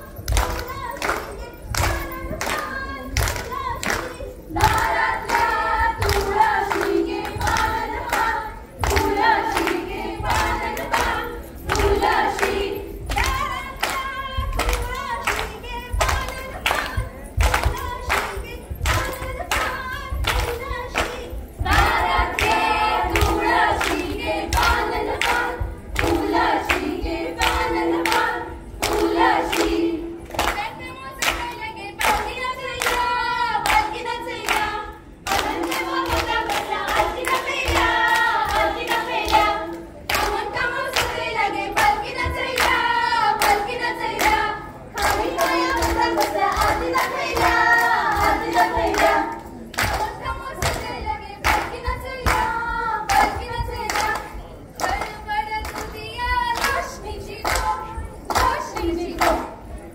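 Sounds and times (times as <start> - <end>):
hand claps: 0.0 - 59.7
women singing together: 0.0 - 59.9.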